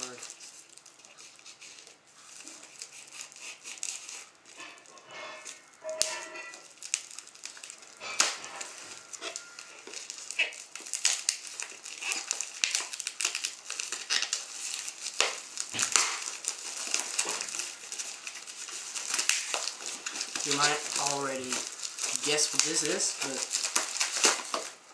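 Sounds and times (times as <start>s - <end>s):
packaging tearing and crinkling: 0.0s - 24.9s.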